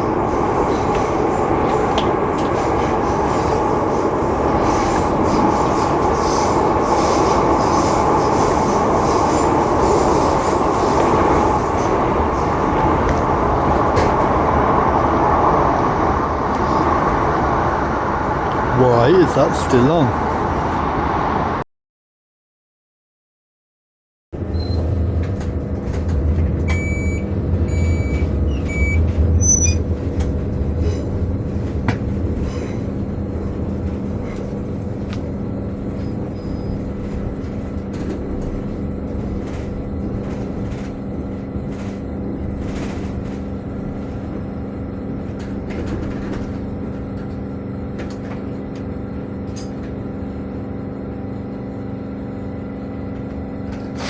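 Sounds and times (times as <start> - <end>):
rumble of train wheels: 0.0 - 21.6, 24.4 - 54.0.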